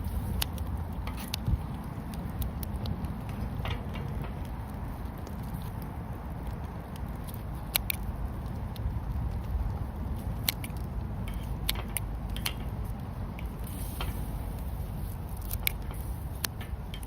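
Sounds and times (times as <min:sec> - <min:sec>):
campfire crackling: 0:00.0 - 0:17.0
fire popping: 0:00.0 - 0:17.0
low rush of fire: 0:00.0 - 0:17.0.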